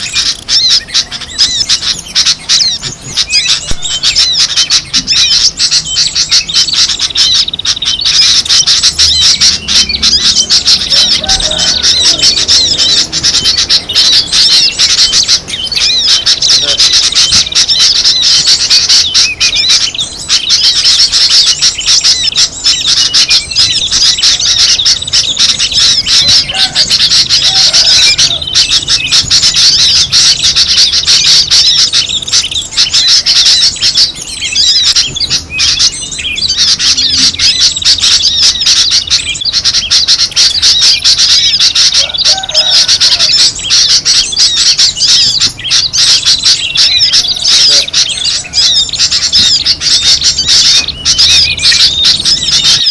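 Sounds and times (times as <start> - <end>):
songbirds chattering: 0.0 - 52.9.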